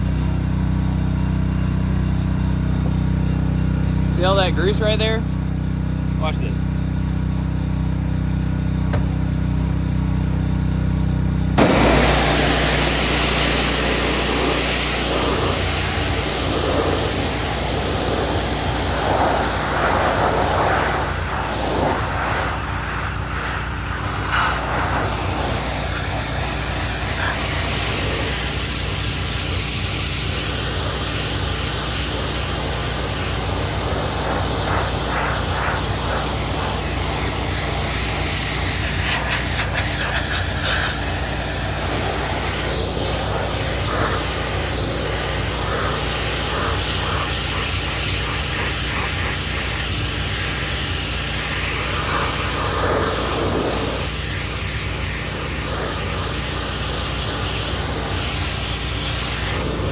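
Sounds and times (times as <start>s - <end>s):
engine running: 0.0s - 59.9s
water spray hissing on metal: 11.6s - 59.9s.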